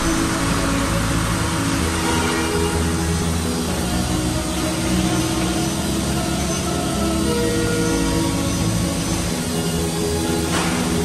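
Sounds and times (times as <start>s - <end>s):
background music: 0.0s - 11.0s
wood router running: 0.0s - 11.0s.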